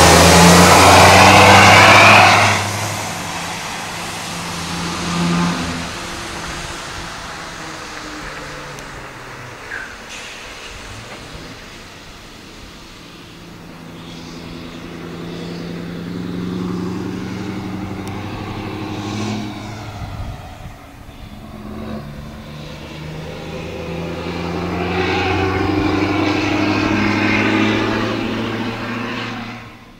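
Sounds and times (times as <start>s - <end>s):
truck engines driving past: 0.0s - 29.9s.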